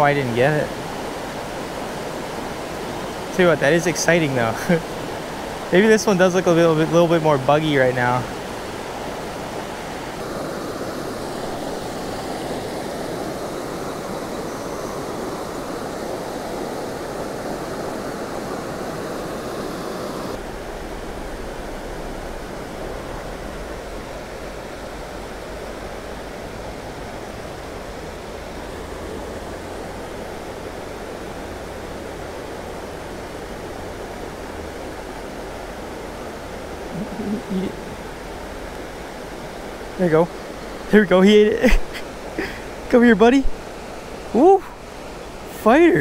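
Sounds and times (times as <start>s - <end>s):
creek flowing over rocks: 0.0s - 46.0s.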